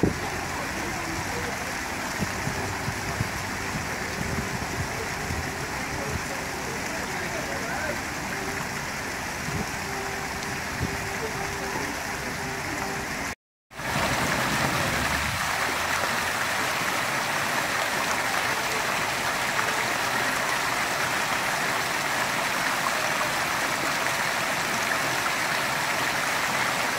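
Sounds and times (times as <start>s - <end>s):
fountain splashing into basin: 0.0s - 26.9s.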